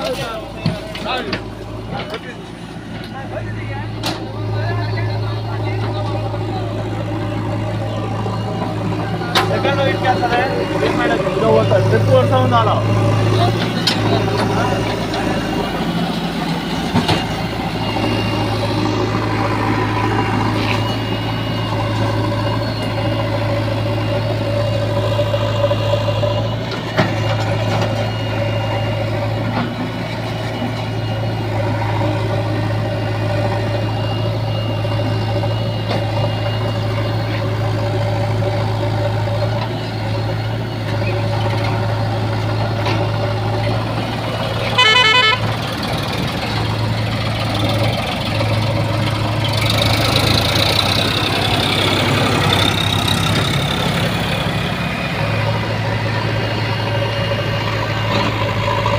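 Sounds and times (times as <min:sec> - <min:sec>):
heavy diesel engine running: 0:00.0 - 0:58.9
rapidly pulsing beep: 0:04.6 - 0:58.9.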